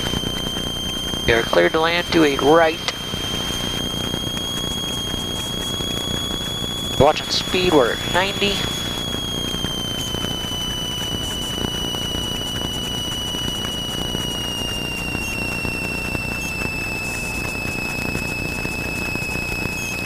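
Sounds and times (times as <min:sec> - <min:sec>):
engine and wind drone: 0:00.0 - 0:20.0.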